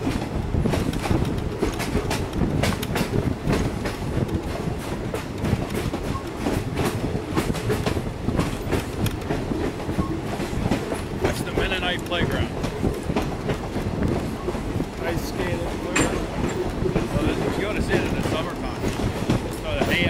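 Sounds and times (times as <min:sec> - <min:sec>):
train car rumbling on track: 0:00.0 - 0:20.0
wheels clicking over rail joints: 0:00.0 - 0:20.0.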